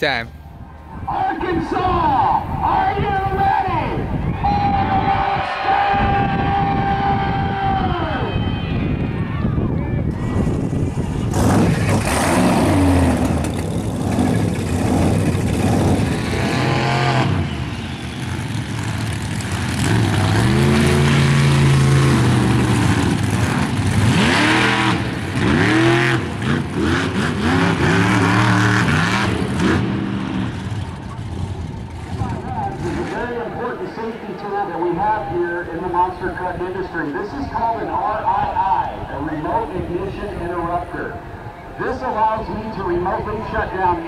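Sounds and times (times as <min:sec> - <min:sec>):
monster truck engines revving: 0:04.0 - 0:44.0.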